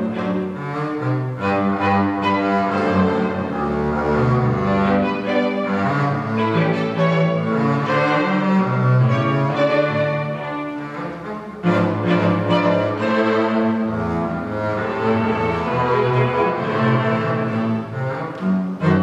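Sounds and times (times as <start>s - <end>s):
double bass: 0.0s - 19.0s
string quartet playing: 0.0s - 19.0s.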